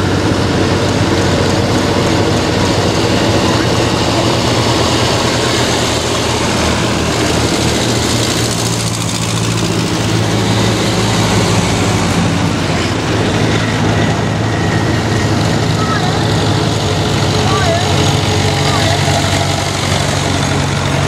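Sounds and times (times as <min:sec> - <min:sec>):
tractor engines driving past: 0:00.0 - 0:21.0.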